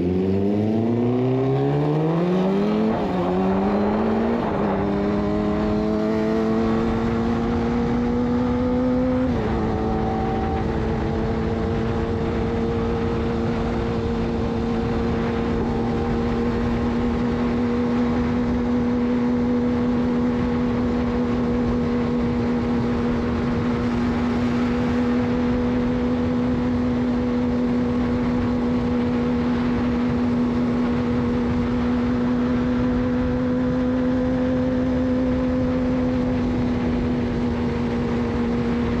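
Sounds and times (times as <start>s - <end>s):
motorcycle engine revving: 0.0s - 39.0s
wind and road noise: 0.0s - 39.0s.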